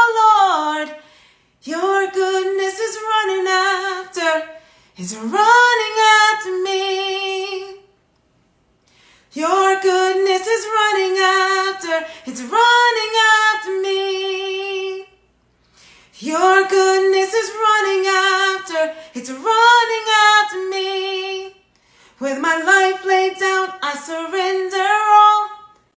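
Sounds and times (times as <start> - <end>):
woman singing unaccompanied: 1.6 - 7.9, 9.3 - 15.2, 16.2 - 21.6, 22.2 - 26.0.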